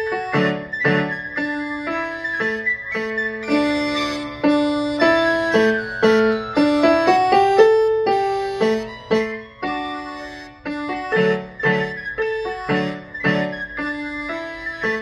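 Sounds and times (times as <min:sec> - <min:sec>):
digital piano piece: 0:00.0 - 0:15.0.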